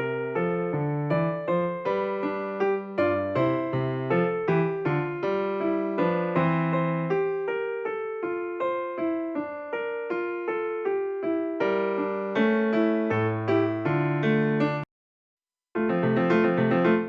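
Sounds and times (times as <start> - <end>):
electric piano music with bass: 0.0 - 14.9, 15.8 - 17.0.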